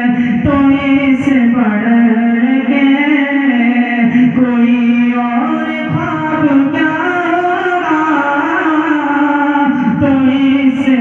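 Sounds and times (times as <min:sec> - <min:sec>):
man singing devotional hymn: 0:00.0 - 0:11.0.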